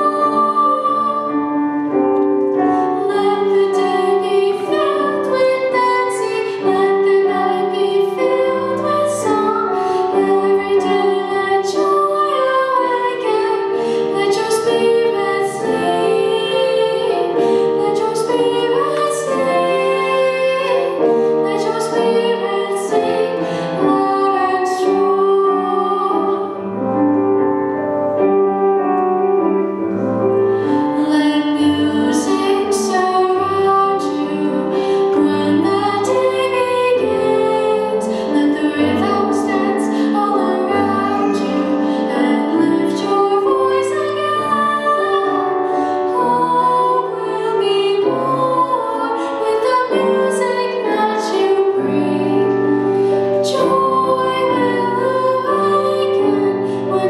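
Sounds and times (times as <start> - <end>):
girl singing into microphone: 0.0 - 26.7, 30.6 - 57.0
piano accompaniment: 0.0 - 57.0.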